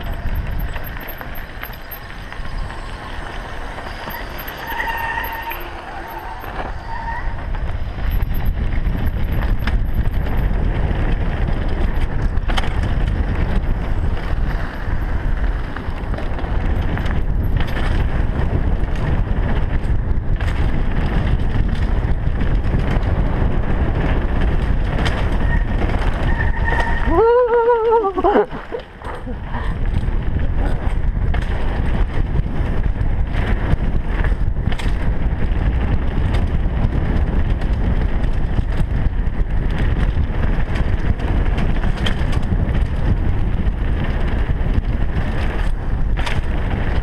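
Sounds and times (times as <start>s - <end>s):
bike knocks and rattles: 0.0s - 47.0s
tyres rolling on gravel: 0.0s - 47.0s
wind buffeting microphone: 0.0s - 47.0s.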